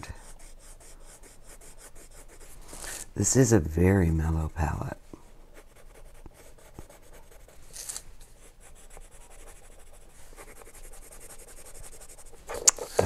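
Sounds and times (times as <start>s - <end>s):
colored pencil scratching paper: 0.0s - 3.1s, 5.5s - 13.0s.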